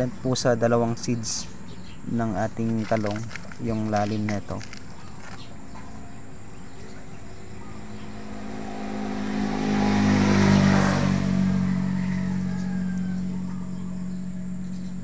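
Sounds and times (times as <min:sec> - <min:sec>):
vehicle engine passing: 0:02.5 - 0:15.0.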